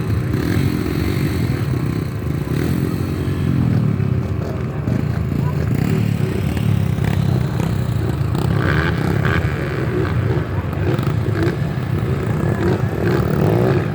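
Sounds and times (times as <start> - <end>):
dirt bike engine running: 0.0 - 13.9.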